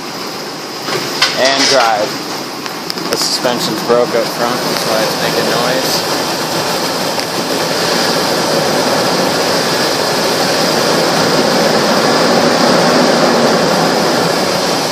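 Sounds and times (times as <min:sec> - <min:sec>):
truck engine running: 0:01.8 - 0:14.9.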